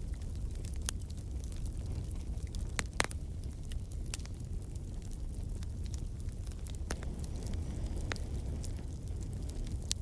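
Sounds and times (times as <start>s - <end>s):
wood fire crackling and popping: 0.0s - 10.0s.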